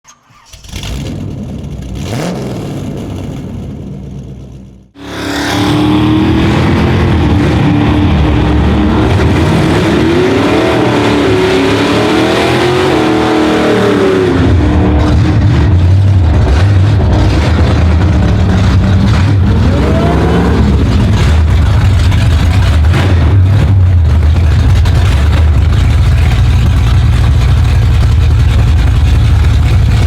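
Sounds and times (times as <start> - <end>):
truck engine revving: 5.0 - 30.0.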